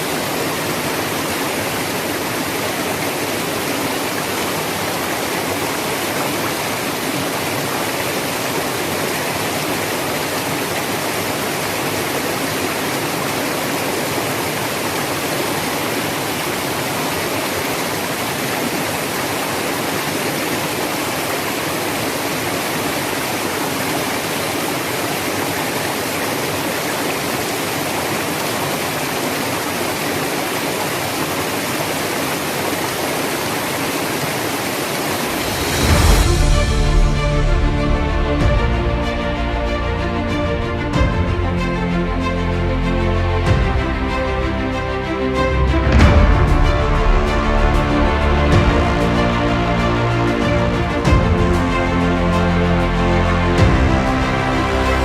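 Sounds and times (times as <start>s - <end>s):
waterfall and river rushing: 0.0s - 55.0s.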